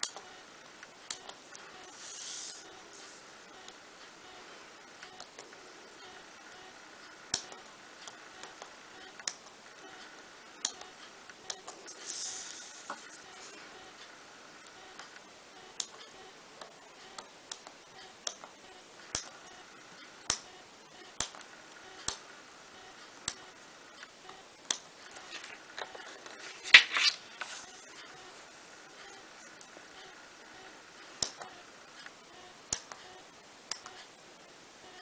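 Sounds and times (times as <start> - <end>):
crackling noise: 0.0 - 35.0.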